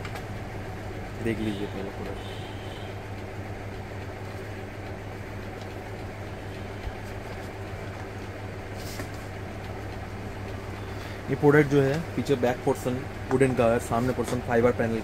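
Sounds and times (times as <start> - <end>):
low hum and rumble: 0.0 - 15.0.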